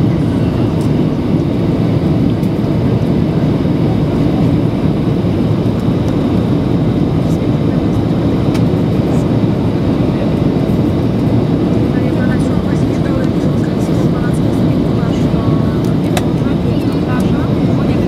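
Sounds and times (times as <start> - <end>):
jet engines rumbling in flight: 0.0 - 18.0.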